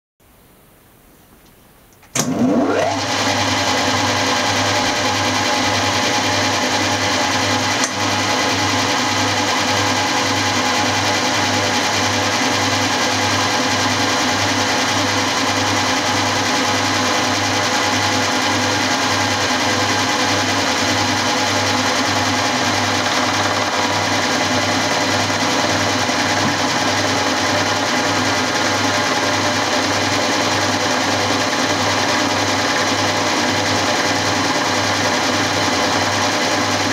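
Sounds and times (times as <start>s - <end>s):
milling machine whining: 2.2s - 36.9s.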